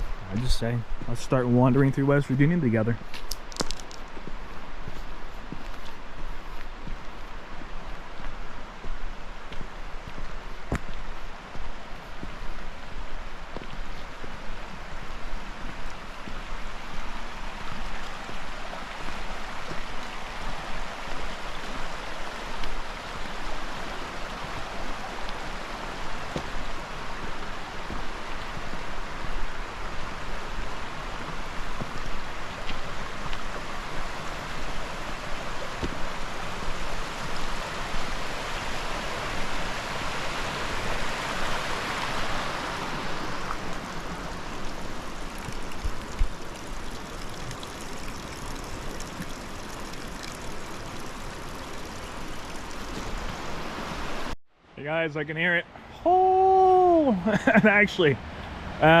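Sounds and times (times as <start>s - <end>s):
creek water rushing over rocks: 0.0s - 54.4s.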